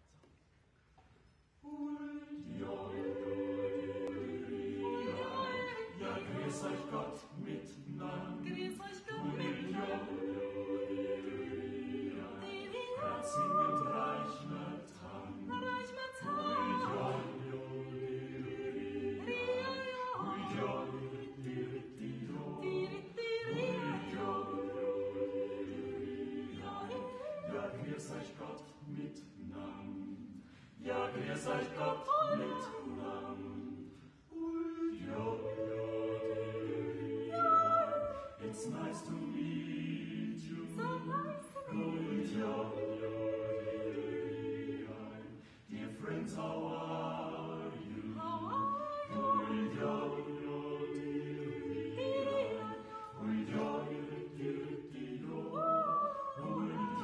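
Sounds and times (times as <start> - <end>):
choir singing a cappella yodel: 1.6 - 57.0.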